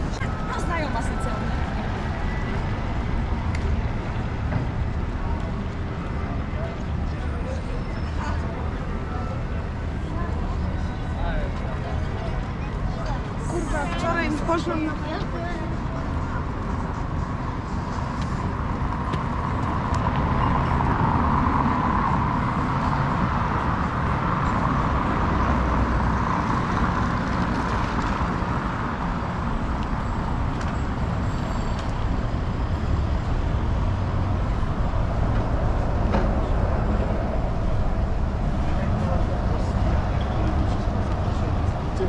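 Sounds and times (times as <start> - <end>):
road traffic rumbling: 0.0 - 42.0.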